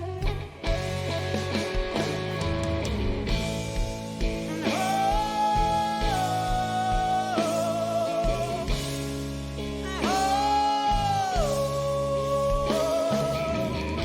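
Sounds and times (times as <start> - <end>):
slow blues-rock music: 0.0 - 14.0.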